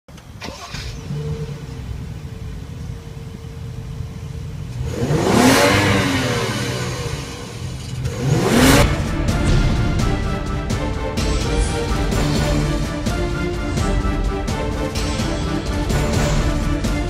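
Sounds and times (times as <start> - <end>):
car engine idling and revving: 0.1 - 17.0.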